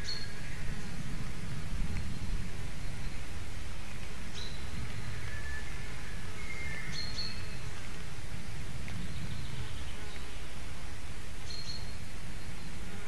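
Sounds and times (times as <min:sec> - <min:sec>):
low buzzing hum: 0:00.0 - 0:13.0.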